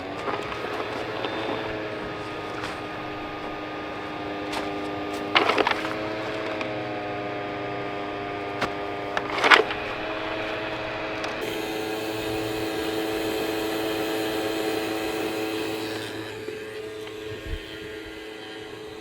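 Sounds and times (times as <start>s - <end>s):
clattering bursts: 0.0s - 17.2s
robot vacuum motor whining: 0.0s - 19.0s.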